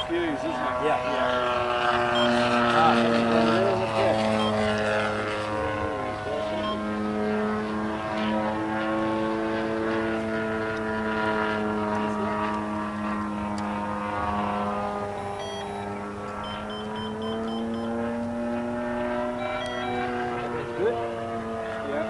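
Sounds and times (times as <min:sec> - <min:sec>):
model aircraft engine droning: 0:00.0 - 0:22.0.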